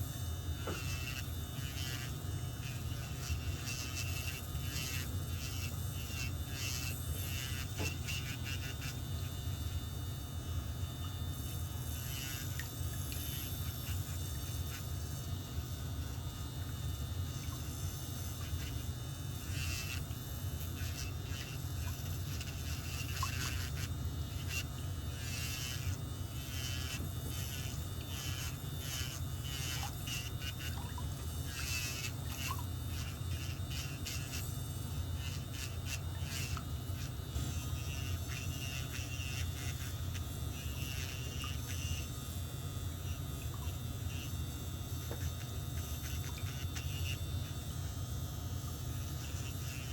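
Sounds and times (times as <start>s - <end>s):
electric nail file running: 0.0s - 49.9s
nail file rasping strokes: 0.6s - 9.4s, 11.4s - 15.3s, 18.4s - 42.1s, 43.0s - 44.4s, 45.0s - 47.8s, 48.9s - 49.9s.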